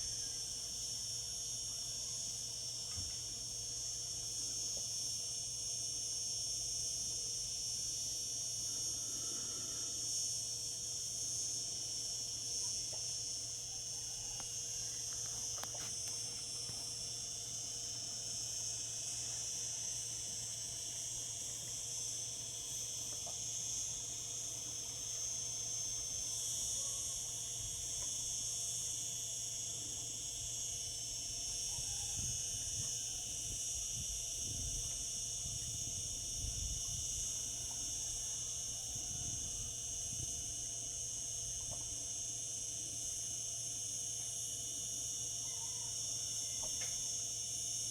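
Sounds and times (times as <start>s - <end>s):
cicadas singing: 3.6s - 47.8s.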